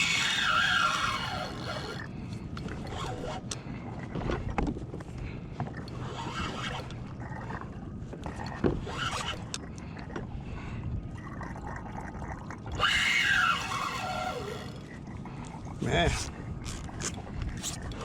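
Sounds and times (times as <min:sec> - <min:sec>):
water lapping against kayak hull: 0:00.0 - 0:18.0.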